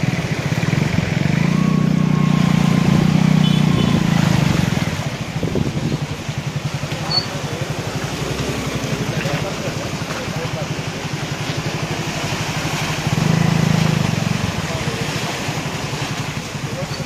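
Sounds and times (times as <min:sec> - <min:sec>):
car driving through floodwater: 0:00.0 - 0:17.0
low pulsing engine: 0:00.0 - 0:17.0.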